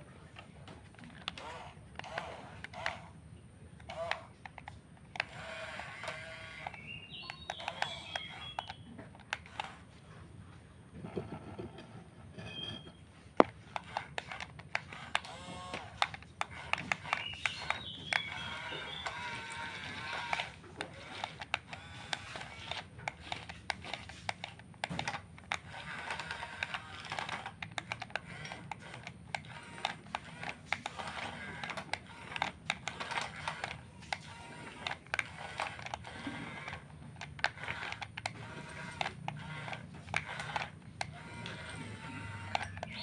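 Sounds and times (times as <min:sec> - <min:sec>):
clicking and rattling machines: 0:00.0 - 0:43.0
faint motor whine: 0:00.0 - 0:43.0.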